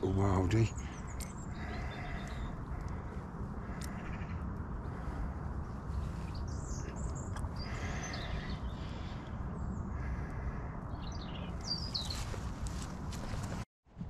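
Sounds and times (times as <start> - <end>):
birds calling: 0.0 - 13.6
steady low rumble: 0.0 - 14.0.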